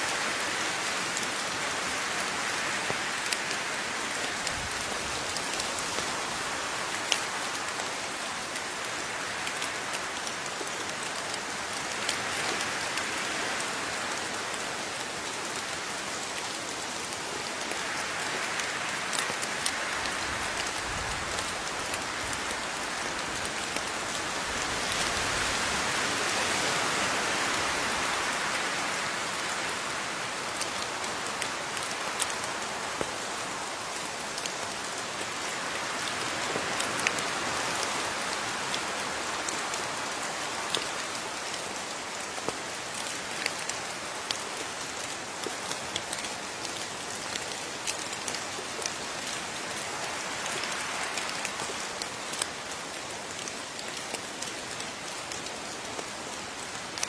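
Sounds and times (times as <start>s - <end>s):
steady rainfall: 0.0s - 57.0s
sharp raindrop ticks: 0.1s - 57.0s.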